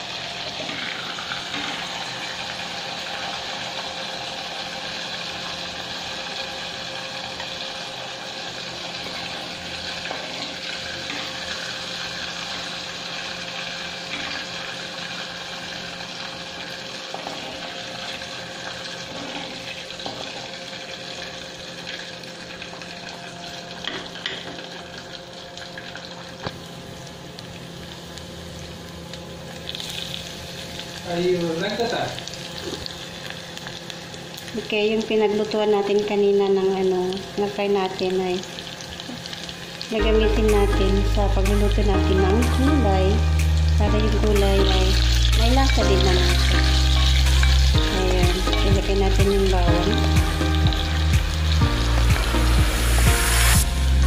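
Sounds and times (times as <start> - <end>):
hot oil sizzling in a pan: 0.0 - 54.0.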